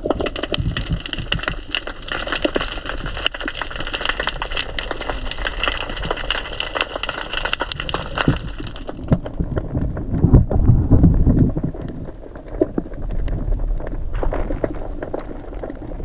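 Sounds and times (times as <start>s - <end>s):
dense crackling clicks underwater: 0.0s - 16.0s
low rumble of moving water: 0.0s - 16.0s.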